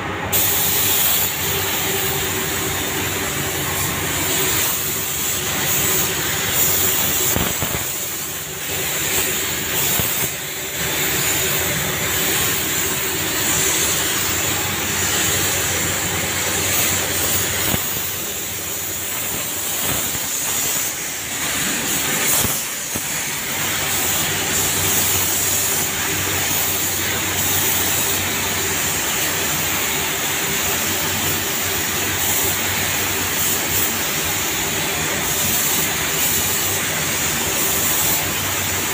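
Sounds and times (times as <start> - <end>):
paint spray gun hissing: 0.3 - 38.9.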